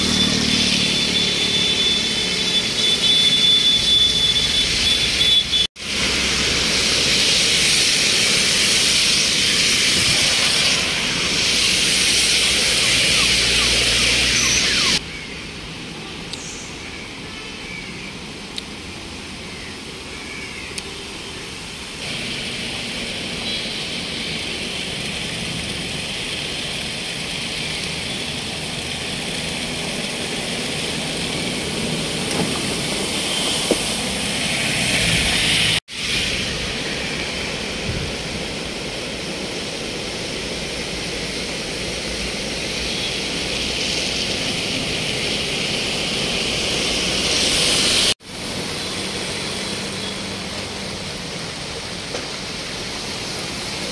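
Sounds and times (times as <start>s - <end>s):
floodwater rushing: 0.0s - 53.9s
vehicles driving through water: 0.0s - 53.9s.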